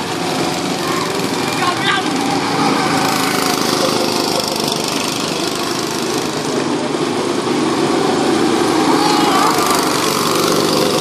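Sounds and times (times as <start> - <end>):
go-kart engines: 0.0 - 11.0.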